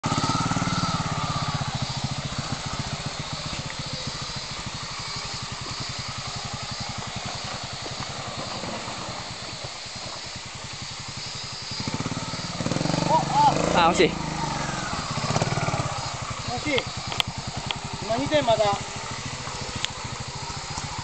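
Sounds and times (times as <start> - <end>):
motorcycle engine chugging: 0.0 - 21.0.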